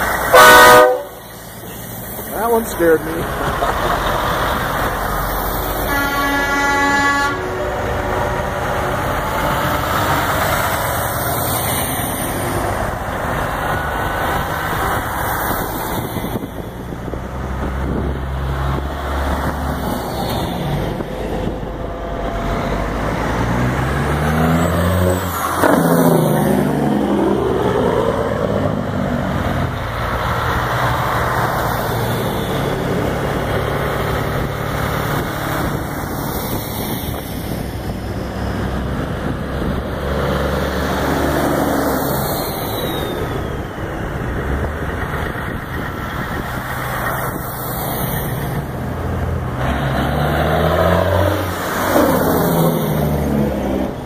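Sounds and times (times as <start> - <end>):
diesel trucks driving past: 0.0 - 54.0.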